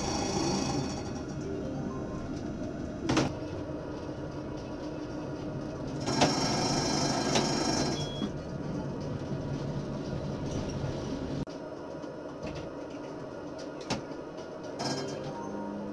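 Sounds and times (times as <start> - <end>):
tram rumbling on track: 0.0 - 15.9.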